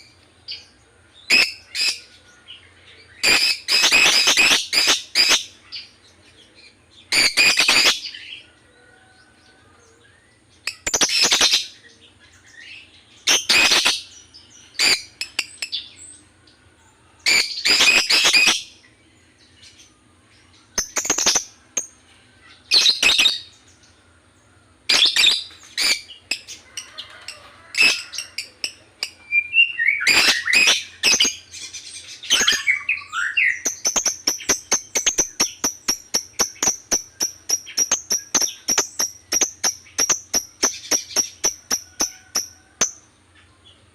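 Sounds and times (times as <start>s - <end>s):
lovebird chirping: 0.0s - 43.9s.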